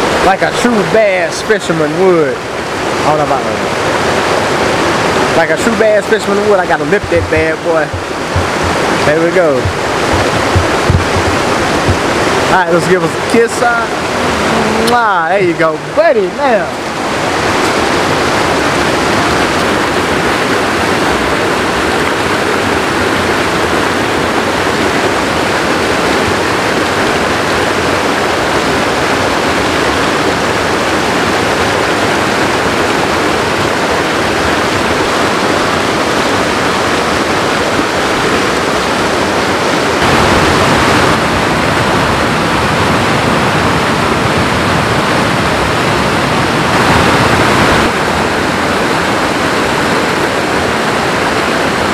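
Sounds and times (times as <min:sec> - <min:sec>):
creek rushing over rocks: 0:00.0 - 0:51.9.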